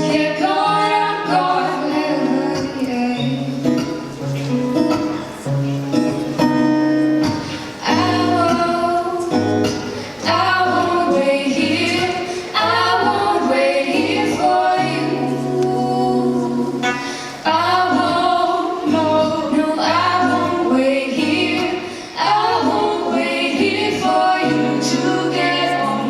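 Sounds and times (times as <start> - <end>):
person singing: 0.0 - 3.9, 7.6 - 26.0.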